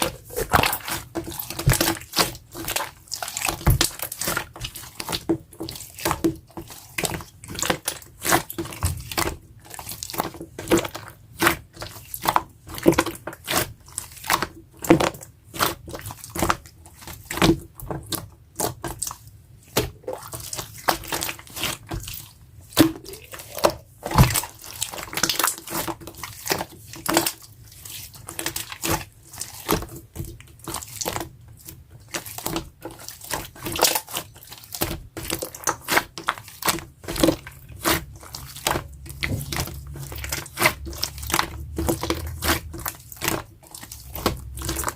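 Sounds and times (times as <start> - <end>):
slime squished by hand: 0.0 - 44.9.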